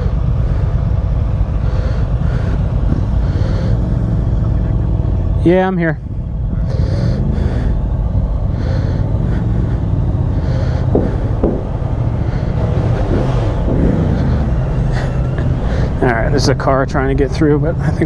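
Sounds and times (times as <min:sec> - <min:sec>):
motorcycle engine running at low revs: 0:00.0 - 0:18.0.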